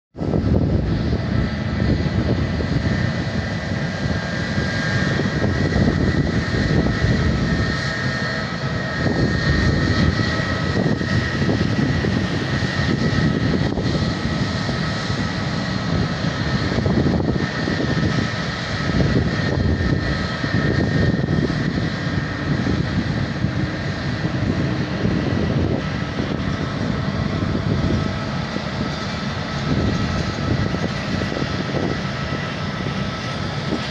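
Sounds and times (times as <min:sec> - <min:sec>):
jet engines running: 0:00.2 - 0:33.9.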